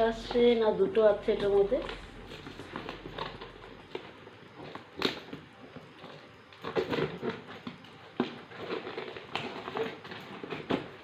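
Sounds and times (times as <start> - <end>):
packaging rustling and crackling: 1.8 - 11.0.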